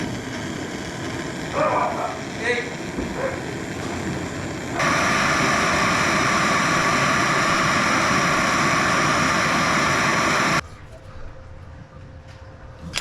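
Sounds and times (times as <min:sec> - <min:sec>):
loud machine motor running: 0:00.0 - 0:10.6.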